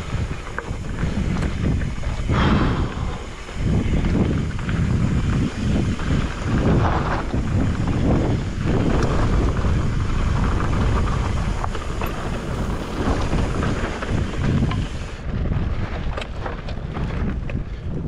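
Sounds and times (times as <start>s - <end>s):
stones and bike rattling: 0.0s - 18.0s
wind buffeting microphone: 0.0s - 18.0s.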